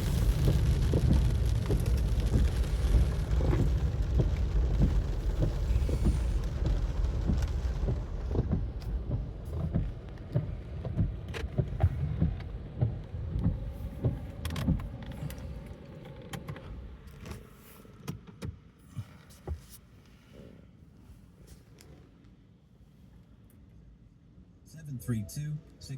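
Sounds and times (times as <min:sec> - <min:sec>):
car road and engine rumble: 0:00.0 - 0:23.2.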